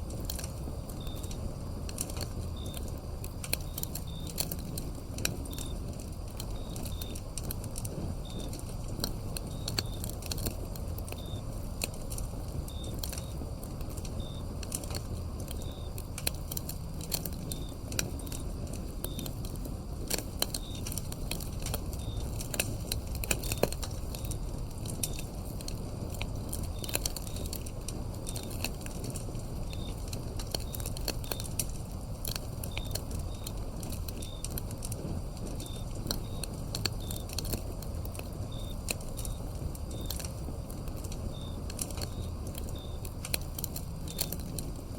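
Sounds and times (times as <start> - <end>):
crickets chirping: 0.0 - 44.9
wood fire crackling: 0.0 - 44.9.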